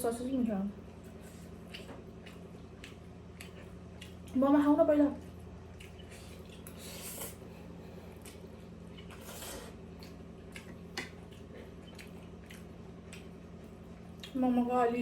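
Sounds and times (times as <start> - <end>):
faint chewing: 0.8 - 14.6.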